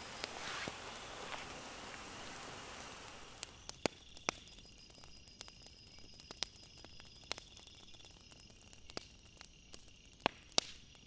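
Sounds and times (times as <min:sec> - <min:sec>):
firewood crackling and popping: 0:00.0 - 0:11.0
insects chirping: 0:00.0 - 0:11.0.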